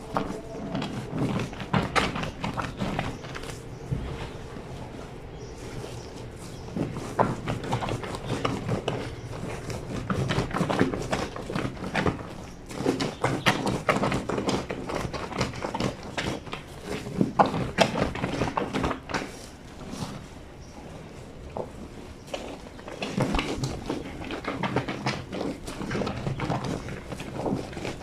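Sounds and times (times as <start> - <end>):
wet blanket scrubbed on washboard: 0.0 - 28.0.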